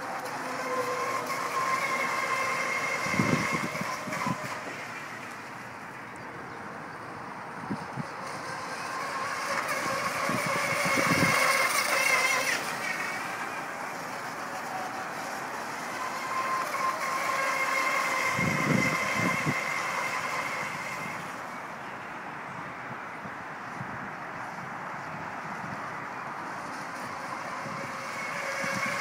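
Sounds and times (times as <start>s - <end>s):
electric boat motor whining: 0.0s - 29.0s.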